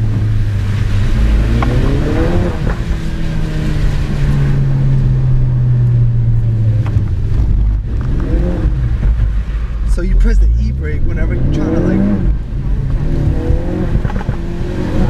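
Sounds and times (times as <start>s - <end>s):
car engine revving hard: 0.0s - 5.4s, 6.6s - 9.1s, 10.0s - 15.0s.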